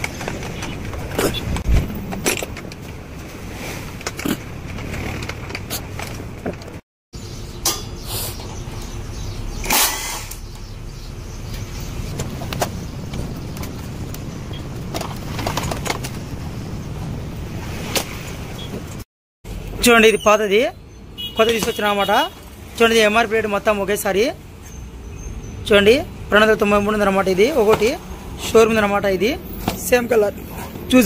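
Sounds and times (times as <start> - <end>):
traffic noise: 0.0 - 31.0.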